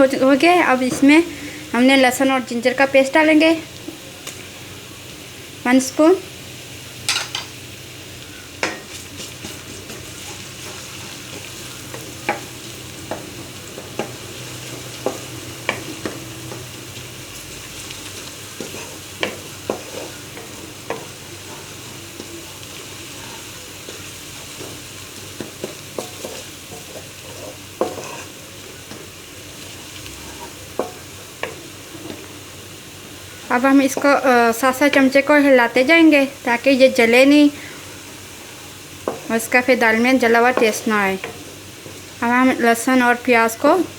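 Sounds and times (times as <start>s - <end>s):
onions sizzling in oil: 0.0s - 43.9s.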